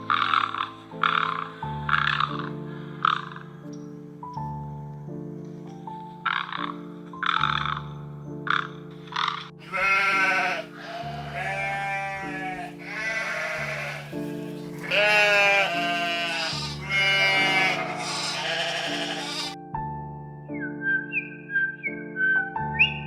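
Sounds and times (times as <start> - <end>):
background music with held chords: 0.0 - 23.0.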